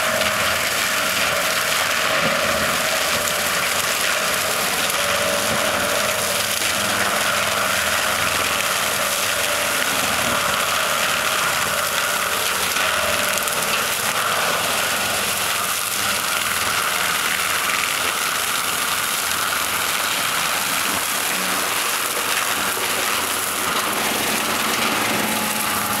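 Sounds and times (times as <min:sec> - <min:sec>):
chopper rotor shredding trees: 0:00.0 - 0:26.0
tractor engine under load: 0:00.0 - 0:26.0.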